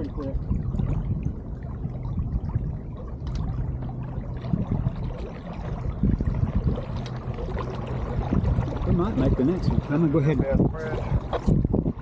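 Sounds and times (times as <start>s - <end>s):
low rumble: 0.0s - 12.0s
water splashing along hull: 0.0s - 12.0s.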